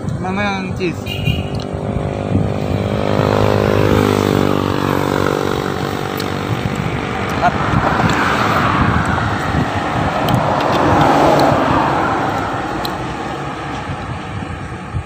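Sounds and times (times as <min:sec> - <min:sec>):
road vehicle passing by: 0:00.7 - 0:15.0.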